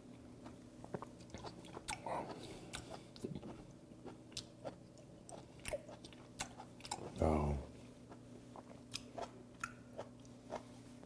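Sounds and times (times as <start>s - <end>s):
chewing with wet mouth clicks: 0.4s - 7.2s, 8.1s - 10.6s.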